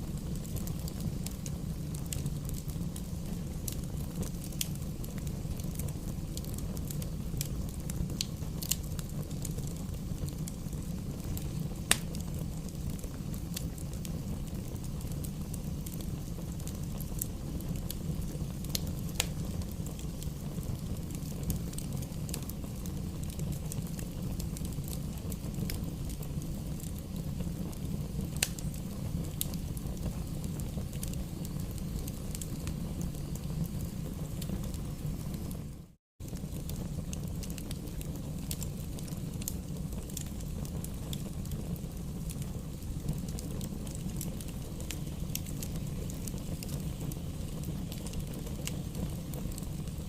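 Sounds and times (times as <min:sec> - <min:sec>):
bonfire crackling and popping: 0:00.0 - 0:50.0
low fire rumble: 0:00.0 - 0:50.0.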